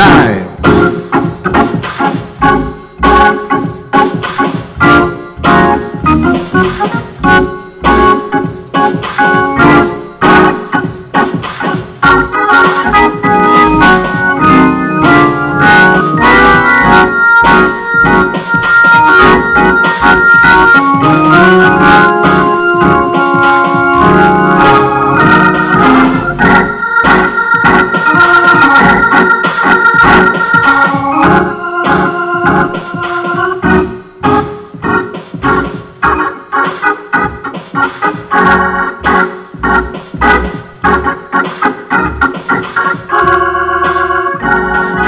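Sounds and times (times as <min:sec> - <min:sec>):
organ chords: 0:00.0 - 0:45.0.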